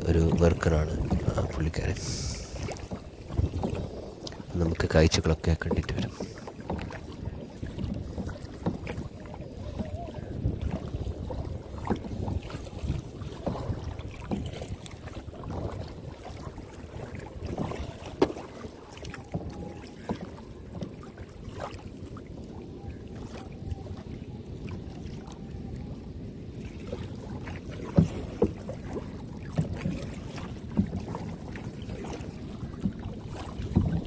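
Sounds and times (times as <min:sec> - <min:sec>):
kayak paddle splashing water: 0:00.0 - 0:34.0
wind rumbling on microphone: 0:00.0 - 0:34.0.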